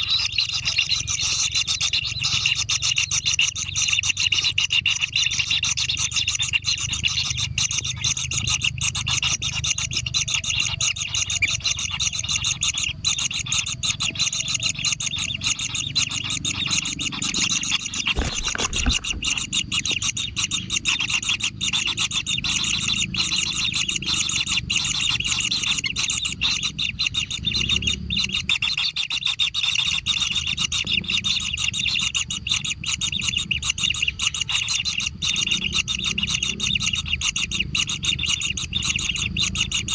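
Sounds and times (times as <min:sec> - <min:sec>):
high buzzing animal chorus: 0:00.0 - 0:39.9.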